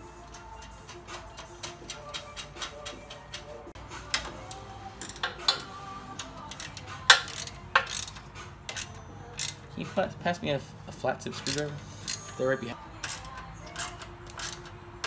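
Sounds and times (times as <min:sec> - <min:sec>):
faint background music: 0:00.0 - 0:15.0
ratchet wrench clicking: 0:00.1 - 0:09.7, 0:11.4 - 0:14.8
sharp metal clicks: 0:00.2 - 0:09.7, 0:11.4 - 0:12.4, 0:13.0 - 0:15.0.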